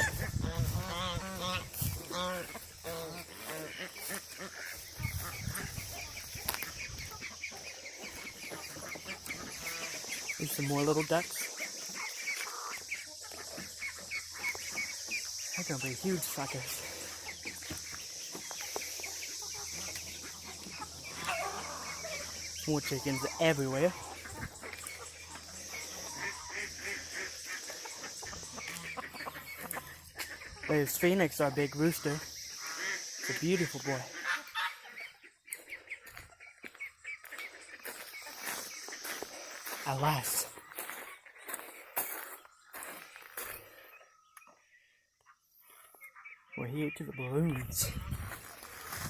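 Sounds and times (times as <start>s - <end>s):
geese honking: 0.0s - 44.1s, 45.5s - 49.0s
poultry peeping and clucking: 0.0s - 49.0s.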